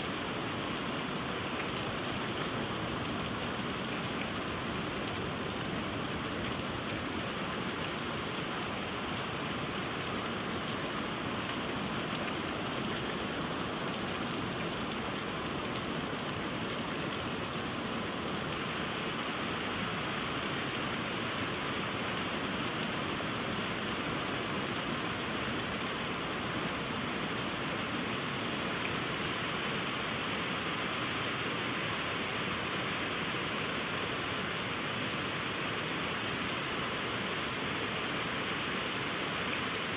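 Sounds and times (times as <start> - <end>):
rain on trees and pond: 0.0 - 39.9.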